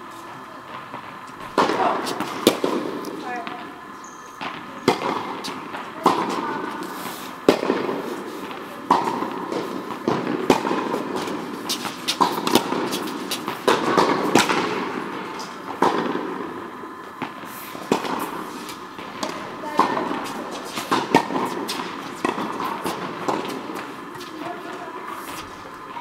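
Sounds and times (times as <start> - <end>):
steady background noise: 0.0 - 26.0
tennis balls struck by rackets: 0.7 - 25.8.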